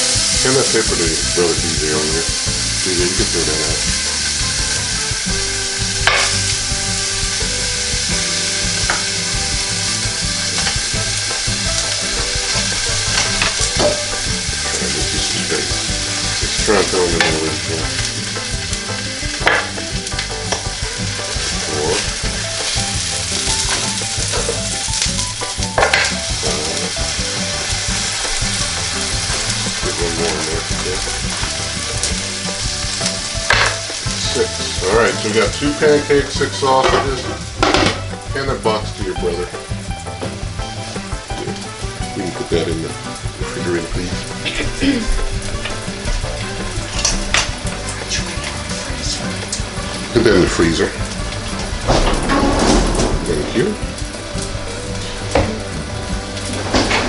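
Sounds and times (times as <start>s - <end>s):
pancakes and sausages sizzling: 0.0s - 57.0s.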